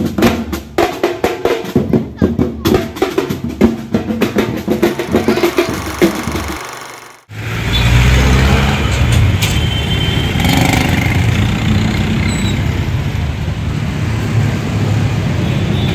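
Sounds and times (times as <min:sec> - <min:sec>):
traffic engines rumbling: 0:02.0 - 0:15.9.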